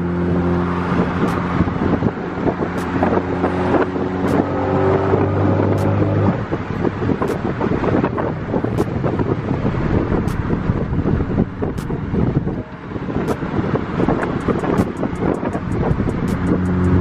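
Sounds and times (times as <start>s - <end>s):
car engine droning: 0.0s - 17.0s
wind and road noise: 0.0s - 17.0s.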